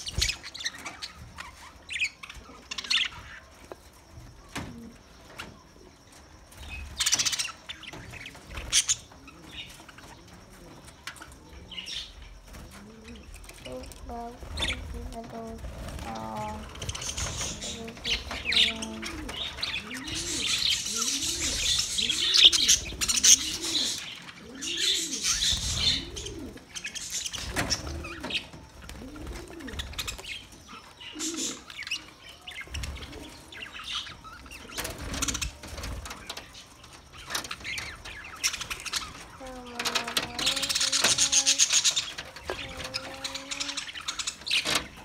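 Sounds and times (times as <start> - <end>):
budgerigars chattering and chirping: 6.6 - 12.4, 13.1 - 45.0.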